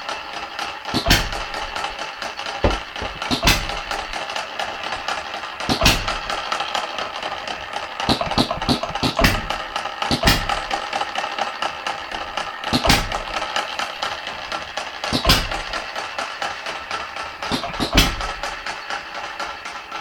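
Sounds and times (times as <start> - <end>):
engine ticking: 0.0 - 20.0.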